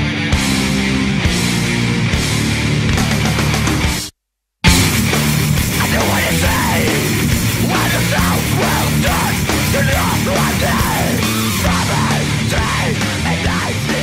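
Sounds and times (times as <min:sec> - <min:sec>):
heavy metal music: 0:00.0 - 0:14.0.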